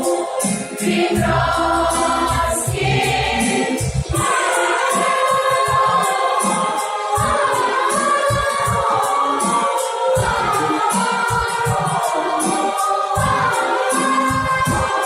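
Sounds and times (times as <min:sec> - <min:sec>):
choir singing: 0:00.0 - 0:15.0
instrumental accompaniment with beat: 0:00.0 - 0:15.0.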